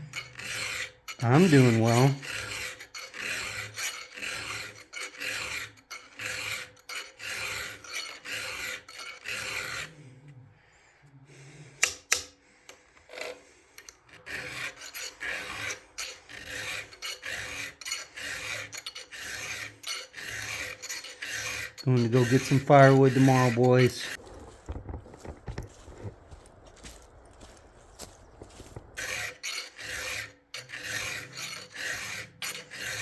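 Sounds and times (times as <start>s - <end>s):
file rasping on chainsaw chain: 0.0s - 10.3s, 11.6s - 24.2s, 29.0s - 33.0s.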